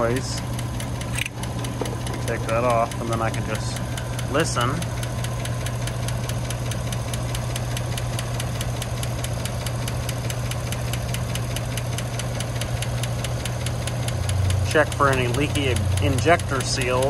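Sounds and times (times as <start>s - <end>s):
car engine idling: 0.0s - 17.0s
rapid valve-train ticking: 0.0s - 17.0s.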